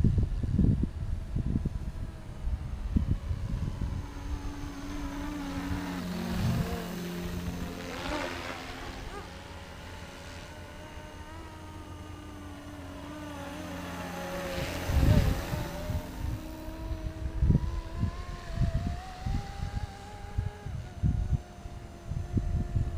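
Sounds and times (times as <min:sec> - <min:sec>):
rc helicopter rotor humming: 0:00.0 - 0:22.9.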